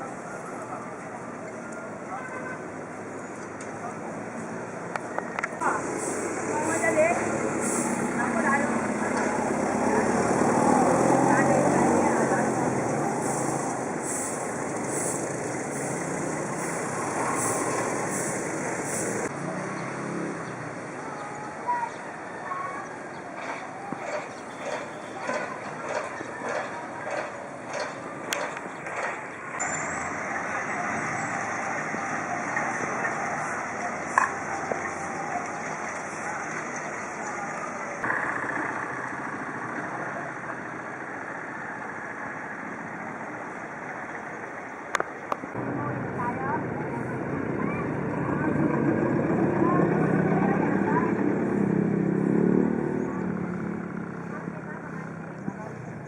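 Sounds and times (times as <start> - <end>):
construction engines running: 0.0 - 56.0
street traffic: 0.0 - 56.0.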